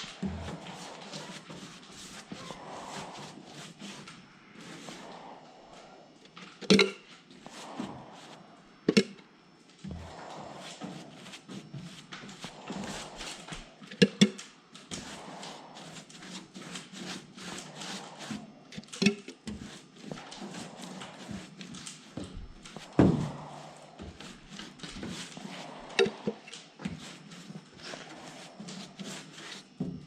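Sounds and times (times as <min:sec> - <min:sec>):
brush scraping strokes: 0:00.0 - 0:06.2, 0:07.2 - 0:08.7, 0:09.9 - 0:30.0.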